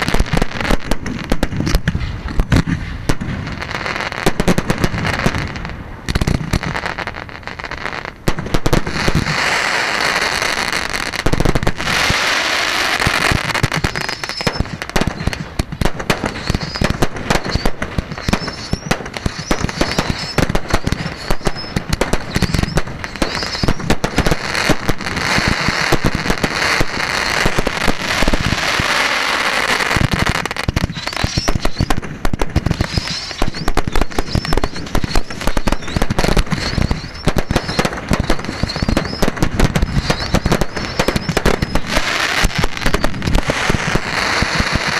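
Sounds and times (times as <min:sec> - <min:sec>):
fireworks bursts and crackling: 0:00.0 - 0:44.9
fireworks whistles: 0:00.0 - 0:44.9.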